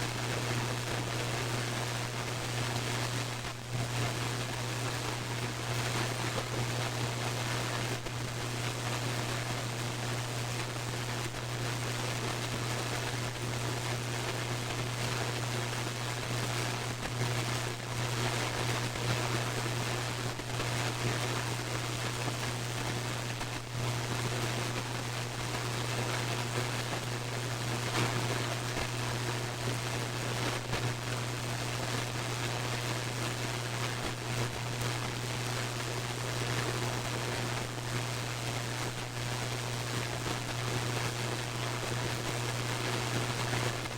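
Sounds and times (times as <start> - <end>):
radio static hiss: 0.0 - 43.9
static crackles: 0.0 - 43.9.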